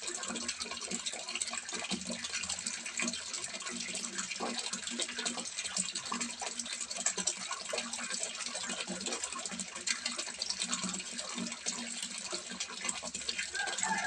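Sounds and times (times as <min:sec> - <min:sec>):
water pouring into a pond: 0:00.0 - 0:14.0.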